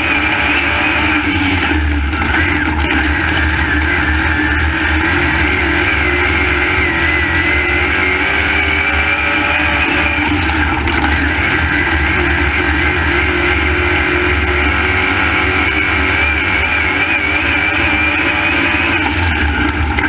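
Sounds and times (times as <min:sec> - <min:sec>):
race car engine at speed: 0:00.0 - 0:20.0.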